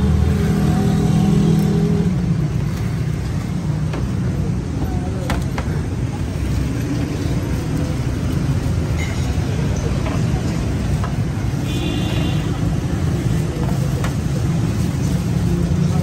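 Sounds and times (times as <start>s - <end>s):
traffic rumble: 0.0s - 16.0s
faint background voices: 0.1s - 16.0s.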